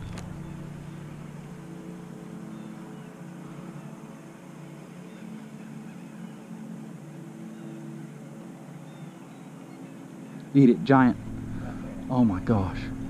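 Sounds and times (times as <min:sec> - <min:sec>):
electric trolling motor humming: 0:00.0 - 0:13.0.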